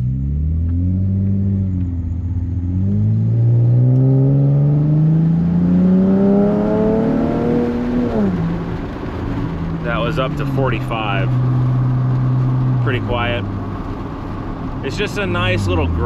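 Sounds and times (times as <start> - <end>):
pickup truck engine accelerating: 0.0 - 16.0.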